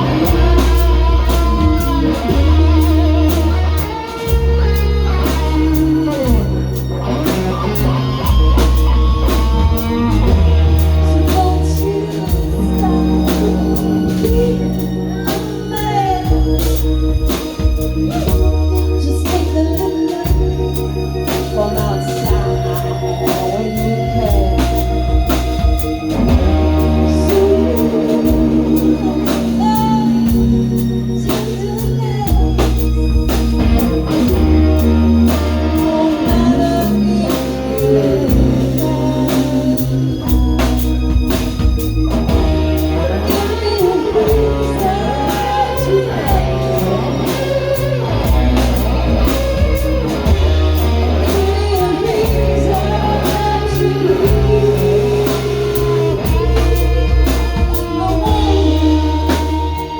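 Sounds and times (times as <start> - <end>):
guitar: 0.0 - 59.9
held bass notes: 0.0 - 59.9
person singing: 0.0 - 59.9.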